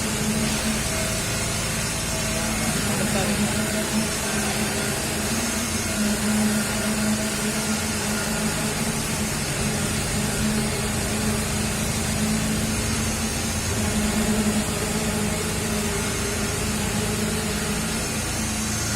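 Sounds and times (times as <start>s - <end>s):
concrete pump engine droning: 0.0s - 18.9s.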